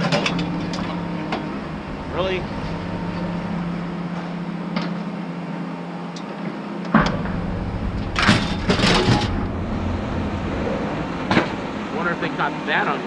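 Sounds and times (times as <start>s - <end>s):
loud rush of noise: 0.0s - 6.0s, 6.9s - 13.0s
truck engine running: 0.0s - 13.0s.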